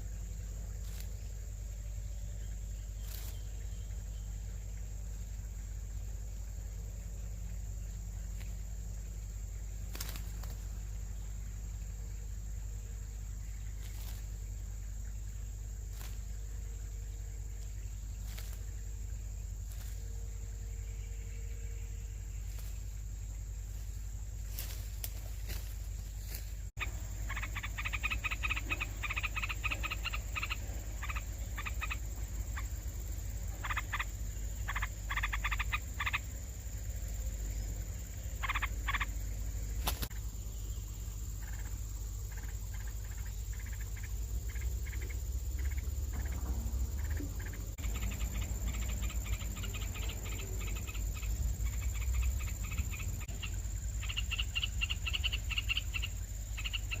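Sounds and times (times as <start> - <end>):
faint high whine: 0.0 - 57.0
steady low hum: 0.0 - 57.0
nestling birds begging calls: 6.8 - 57.0.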